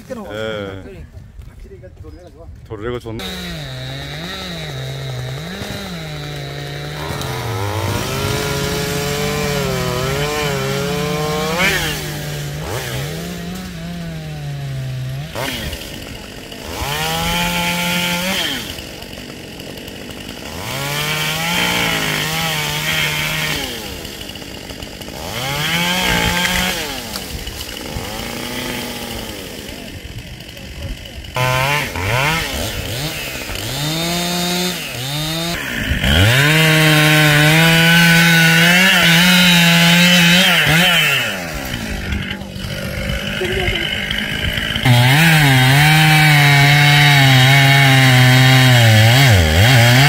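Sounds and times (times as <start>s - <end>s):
chainsaw cutting wood: 3.2s - 50.0s.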